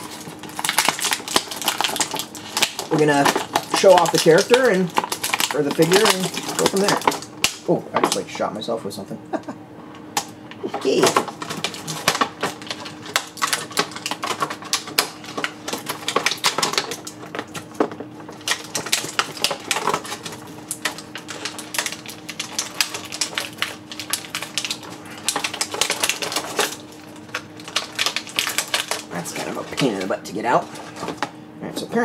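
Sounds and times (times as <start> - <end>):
plastic packaging crinkling: 0.0 - 8.3, 10.2 - 31.4.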